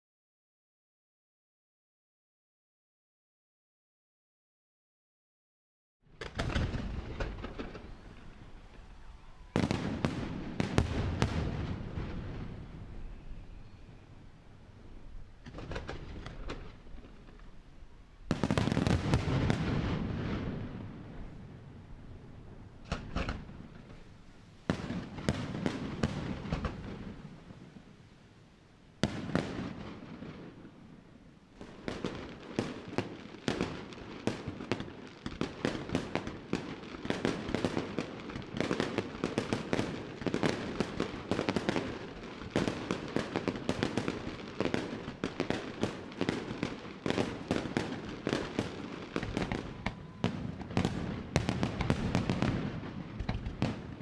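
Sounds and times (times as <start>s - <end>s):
fireworks bursts and crackles: 6.1s - 14.1s, 15.3s - 17.6s, 18.2s - 27.9s, 29.0s - 54.0s.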